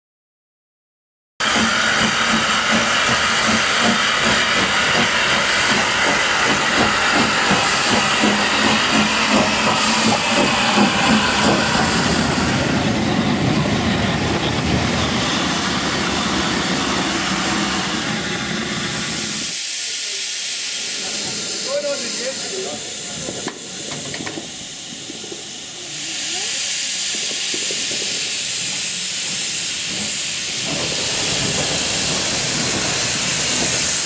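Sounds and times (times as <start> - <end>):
steam hissing: 1.4 - 34.0.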